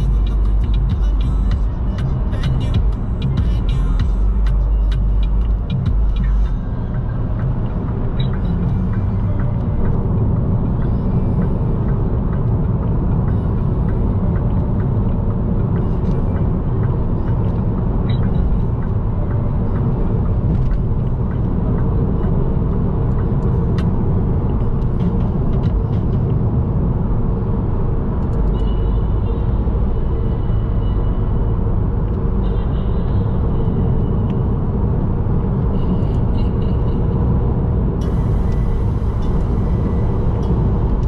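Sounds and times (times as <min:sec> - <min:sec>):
car tyre and road noise: 0:00.0 - 0:41.0.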